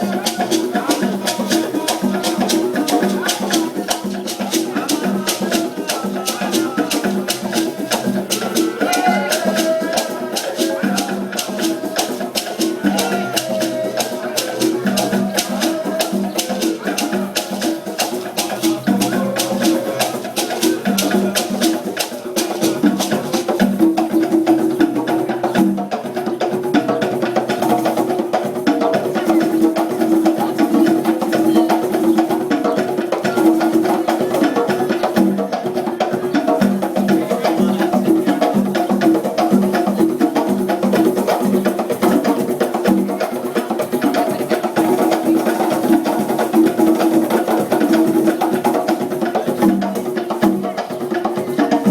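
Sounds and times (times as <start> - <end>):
drum ensemble playing fast rhythm: 0.0 - 51.9
shaker rattling: 0.0 - 51.9.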